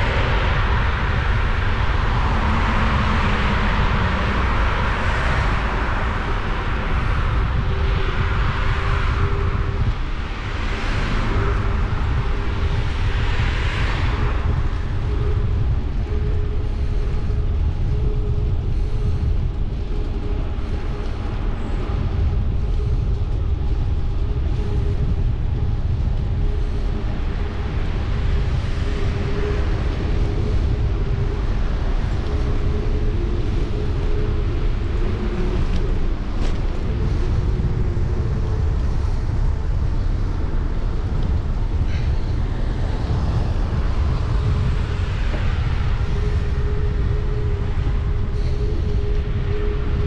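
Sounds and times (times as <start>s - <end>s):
road vehicles passing: 0.0s - 50.0s
wind buffeting microphone: 0.0s - 50.0s.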